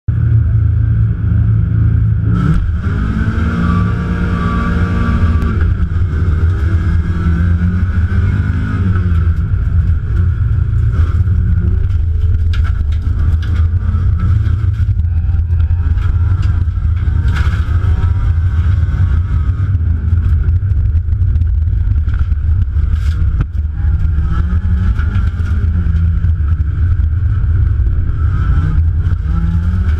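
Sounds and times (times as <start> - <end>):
race car engine accelerating: 1.6 - 29.9.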